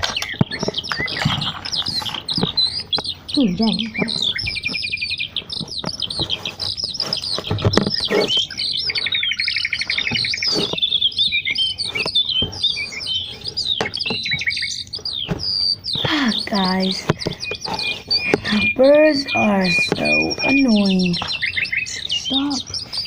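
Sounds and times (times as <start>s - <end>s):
bird trill: 0.0s - 23.0s
small birds chirping: 0.0s - 23.0s.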